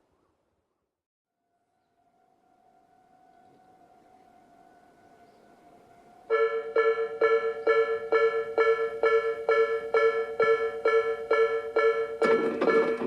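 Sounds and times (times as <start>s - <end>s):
level-crossing alarm bell: 2.3s - 13.0s.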